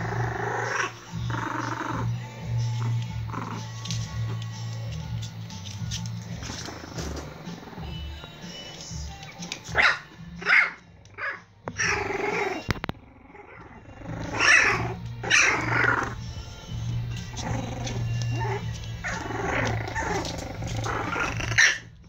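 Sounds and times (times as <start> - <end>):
puppies barking and growling: 0.0 - 22.0.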